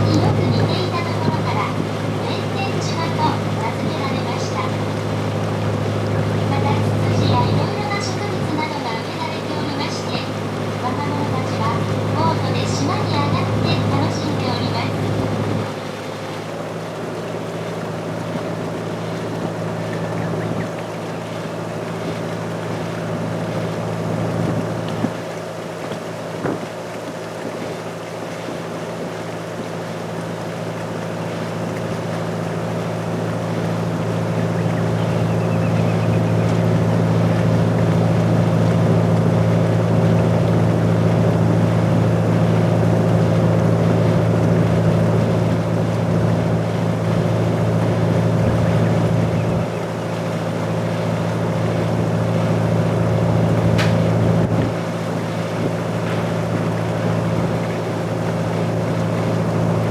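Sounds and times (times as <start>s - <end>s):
boat engine drone: 0.0s - 59.9s
water noise: 0.0s - 59.9s.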